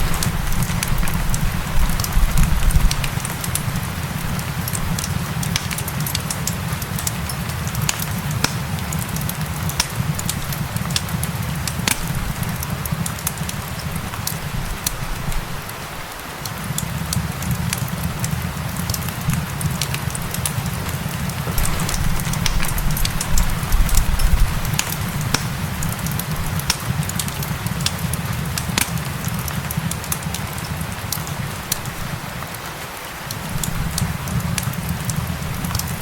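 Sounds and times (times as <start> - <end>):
rain hissing: 0.0 - 36.0
wood fire crackling: 0.0 - 36.0.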